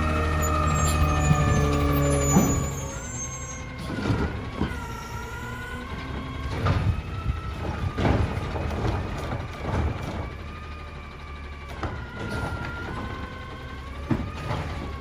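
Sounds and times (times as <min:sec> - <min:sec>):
clunks and bangs: 0:00.0 - 0:15.0
garbage truck engine: 0:00.0 - 0:15.0.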